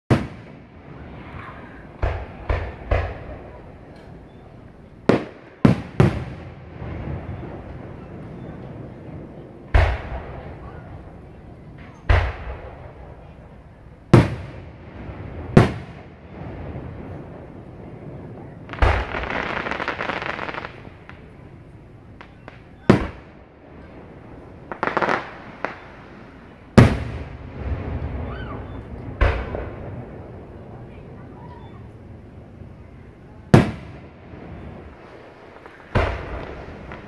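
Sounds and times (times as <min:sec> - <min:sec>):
firework shells booming: 0:00.1 - 0:31.2, 0:31.9 - 0:37.0.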